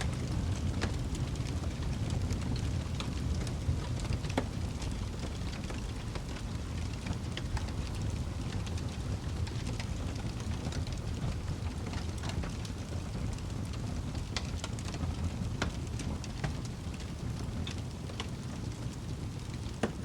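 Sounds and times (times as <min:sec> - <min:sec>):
burning wood crackling and popping: 0:00.0 - 0:20.0
wood fire low rumble: 0:00.0 - 0:20.0.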